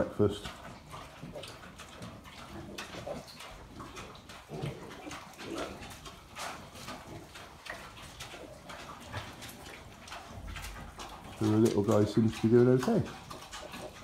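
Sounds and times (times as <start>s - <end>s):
pigs grunting softly: 0.0s - 14.0s.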